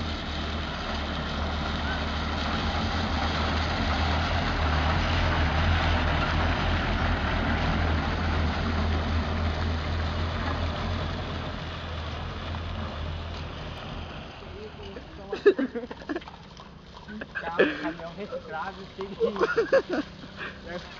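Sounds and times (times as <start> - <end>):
truck engine rumbling: 0.0 - 20.9.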